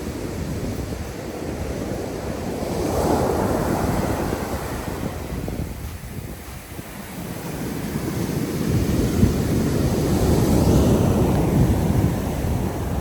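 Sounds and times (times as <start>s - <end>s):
sea waves washing on beach: 0.0s - 13.0s
wind buffeting microphone: 0.0s - 13.0s.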